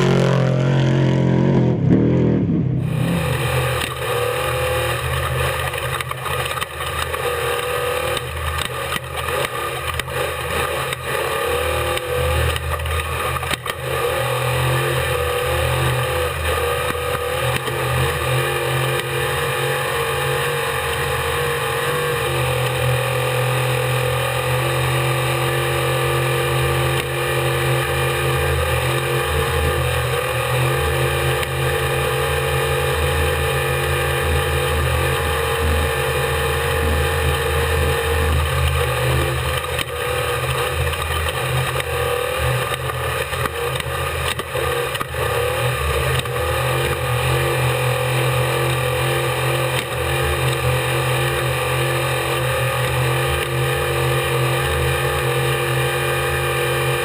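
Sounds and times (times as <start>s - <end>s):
race vehicle engine running: 0.0s - 57.0s.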